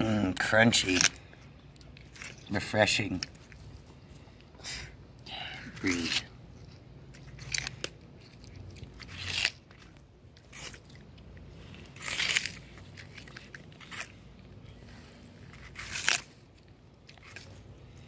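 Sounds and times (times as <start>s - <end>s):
tortoise crunching watermelon: 0.0s - 18.0s.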